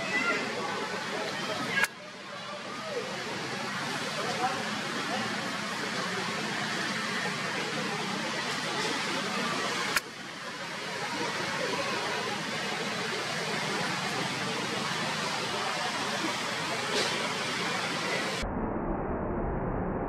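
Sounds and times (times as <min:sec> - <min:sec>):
steady background hiss: 0:00.0 - 0:18.4.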